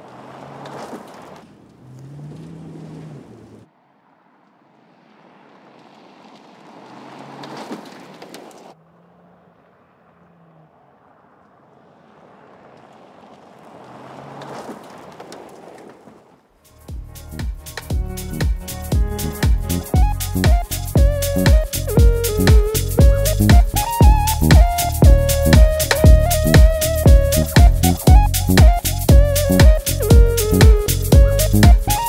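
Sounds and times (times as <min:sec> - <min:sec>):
tyres spraying gravel: 0:00.0 - 0:08.8, 0:09.6 - 0:32.0
car engine revving: 0:00.0 - 0:15.8, 0:16.9 - 0:32.0.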